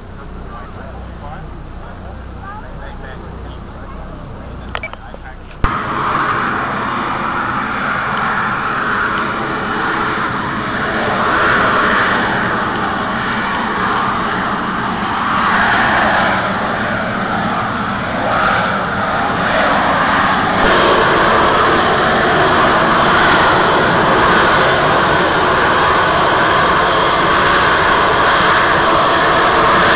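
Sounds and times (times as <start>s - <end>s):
jet aircraft flying overhead: 0.0s - 29.9s.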